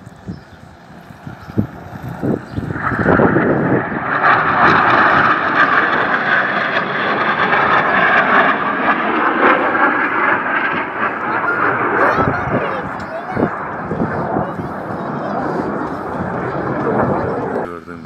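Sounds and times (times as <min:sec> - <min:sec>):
jets flying past overhead: 0:00.0 - 0:18.0.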